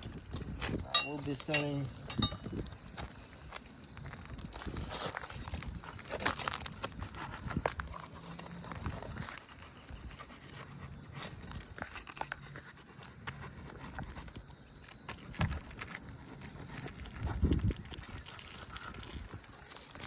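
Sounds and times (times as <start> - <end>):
roof shingles crinkling and scraping: 0.0 - 20.0.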